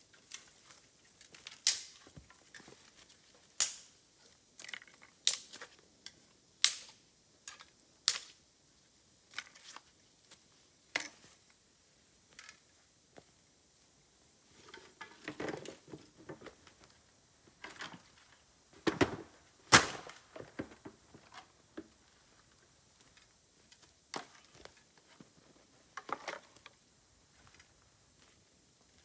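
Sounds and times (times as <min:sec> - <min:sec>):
bamboo fire crackling: 0:00.0 - 0:29.0.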